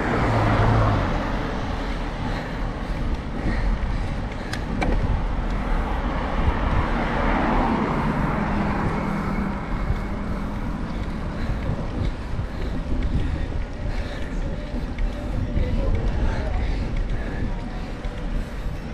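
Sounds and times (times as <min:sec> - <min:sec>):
vehicle engine passing: 0:00.0 - 0:03.4, 0:04.6 - 0:18.9
wind noise: 0:00.0 - 0:18.9.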